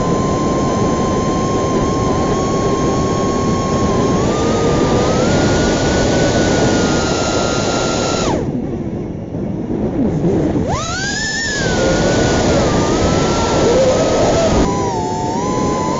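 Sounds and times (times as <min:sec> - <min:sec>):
drone motors whining: 0:00.0 - 0:08.6, 0:10.0 - 0:15.9.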